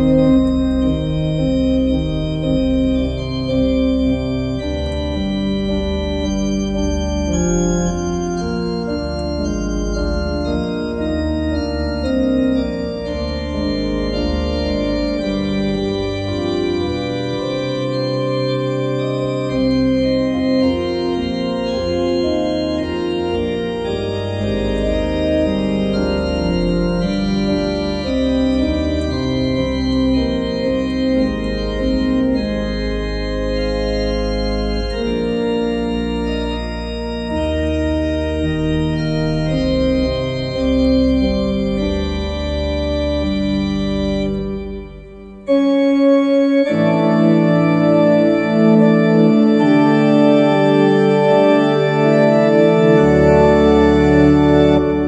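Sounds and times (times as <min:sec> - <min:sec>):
low organ pedal bass notes: 0:00.0 - 0:55.0
organ chords: 0:00.0 - 0:55.0.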